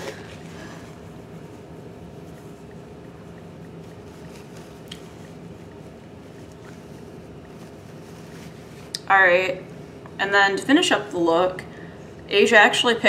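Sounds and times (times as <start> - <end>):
low room hum and hiss: 0.0 - 13.0.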